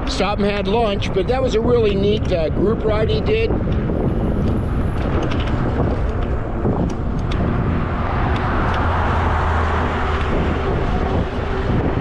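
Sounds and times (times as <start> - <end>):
bicycle road noise rumble: 0.0 - 12.0.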